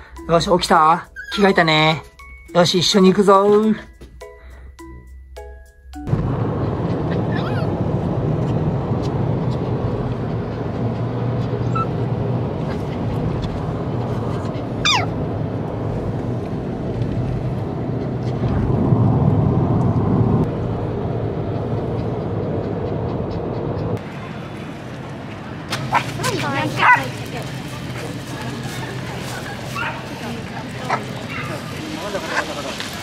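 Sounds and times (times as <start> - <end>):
car road and engine noise: 0.0 - 33.0.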